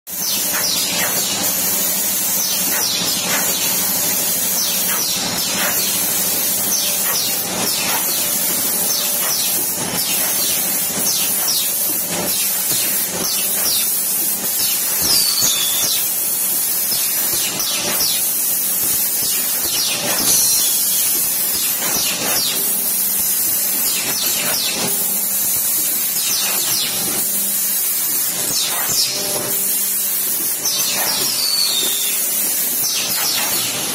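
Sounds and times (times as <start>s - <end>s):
machine clacks: 0.1s - 33.9s
machine hiss and hum: 0.1s - 33.9s.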